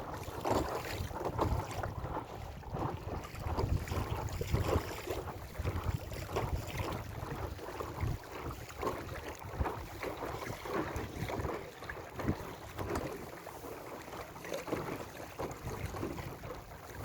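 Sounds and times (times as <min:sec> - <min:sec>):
wind rumbling on microphone: 0:00.0 - 0:13.7, 0:14.7 - 0:17.0
water splashing against hull: 0:00.0 - 0:17.0.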